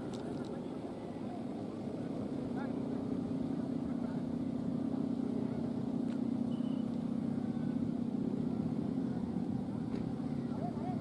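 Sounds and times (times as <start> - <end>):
kite hummer droning: 0.0 - 11.0.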